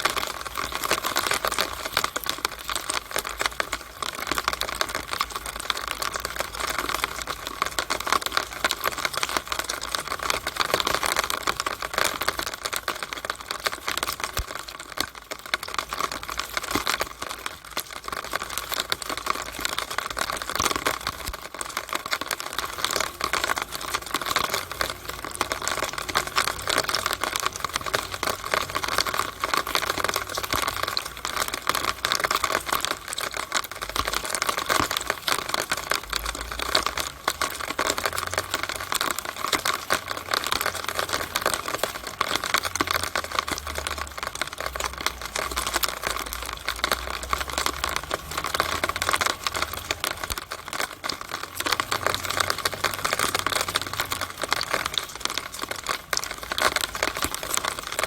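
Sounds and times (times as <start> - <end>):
rainwater splashing in downspout: 0.0 - 58.0.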